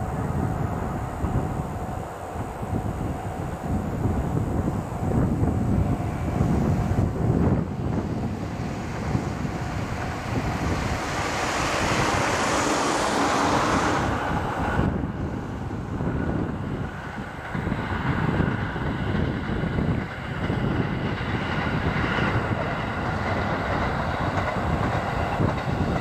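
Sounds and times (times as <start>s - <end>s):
distant train rushing past: 0.0s - 26.0s
wind rumbling on microphone: 0.0s - 26.0s.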